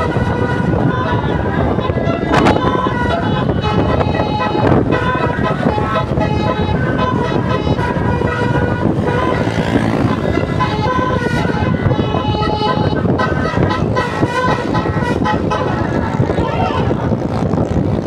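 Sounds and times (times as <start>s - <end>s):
bus musical horn playing a tune: 0.0s - 17.0s
road and engine rumble: 0.0s - 18.0s.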